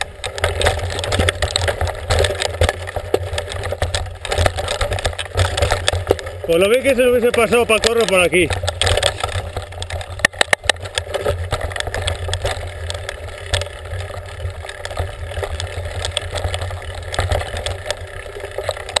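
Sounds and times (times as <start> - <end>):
bike clicks and rattles: 0.0 - 19.0
bike tyres rumbling on trail: 0.0 - 19.0.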